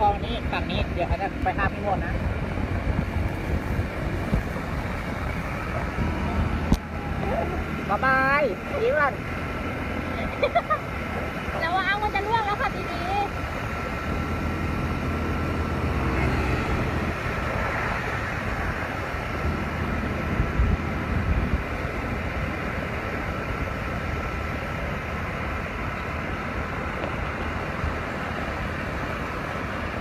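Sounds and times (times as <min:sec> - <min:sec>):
scooter engine and road noise: 0:00.0 - 0:30.0
wind on microphone: 0:00.0 - 0:30.0.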